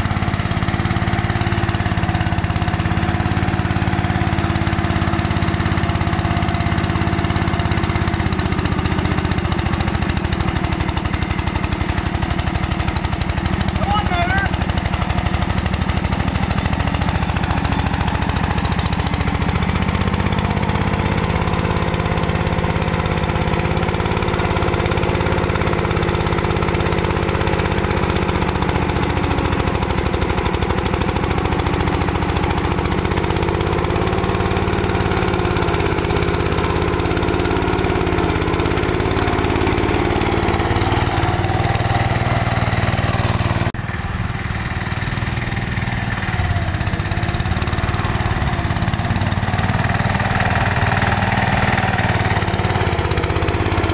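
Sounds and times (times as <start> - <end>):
riding mower engine running: 0.0 - 53.9.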